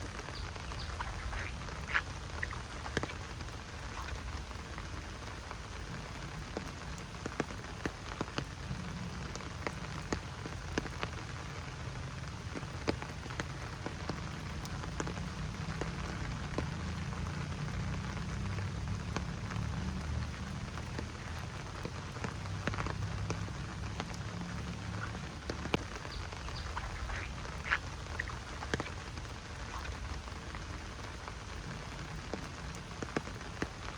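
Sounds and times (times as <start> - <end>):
drops ticking: 0.0 - 33.9
rain falling in forest: 0.0 - 33.9.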